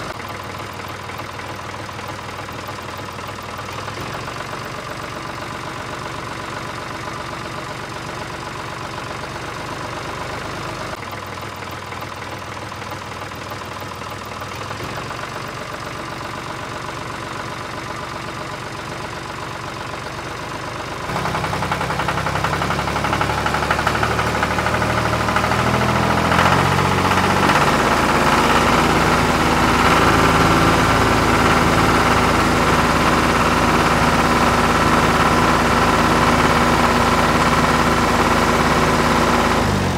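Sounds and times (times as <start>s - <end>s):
tractor engine: 0.0s - 39.9s.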